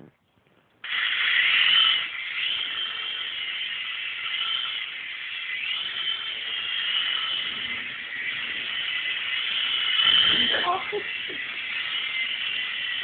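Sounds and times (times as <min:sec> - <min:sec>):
rc helicopter motor whine: 0:00.9 - 0:13.0.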